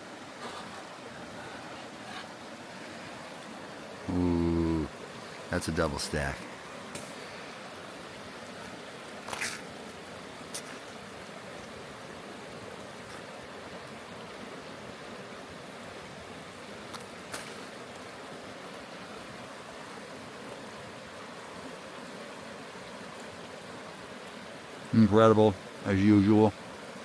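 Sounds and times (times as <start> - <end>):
river water flowing: 0.0 - 27.0
campfire crackles: 0.3 - 27.0.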